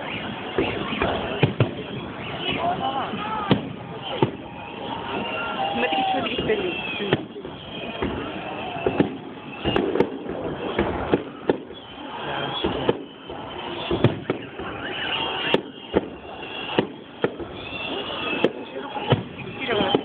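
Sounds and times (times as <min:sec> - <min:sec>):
fireworks bursting bangs: 0:00.0 - 0:20.0.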